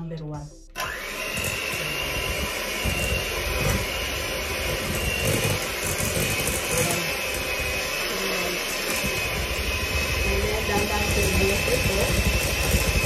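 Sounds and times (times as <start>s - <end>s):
beaters churning frosting in bowl: 0.8s - 13.0s
hand mixer motor whine: 0.8s - 13.0s.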